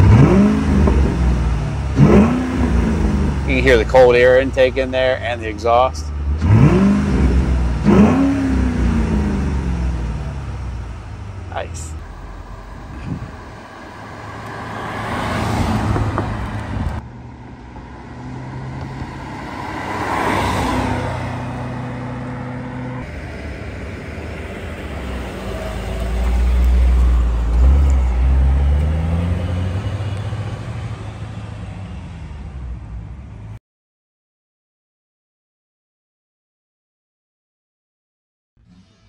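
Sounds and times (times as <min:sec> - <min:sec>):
car engine rumbling past: 0:00.0 - 0:33.6.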